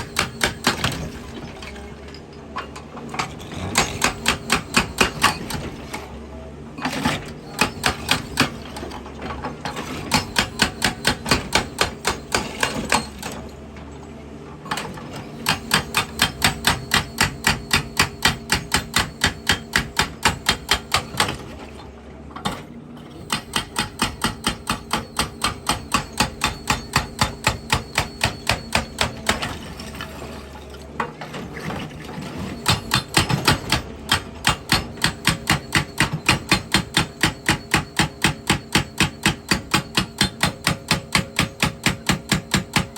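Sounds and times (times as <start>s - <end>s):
hydraulic rock breaker hammering: 0.0s - 1.9s, 3.2s - 6.1s, 6.8s - 13.6s, 14.7s - 21.8s, 22.4s - 30.2s, 31.2s - 42.9s
excavator engine: 0.0s - 42.9s.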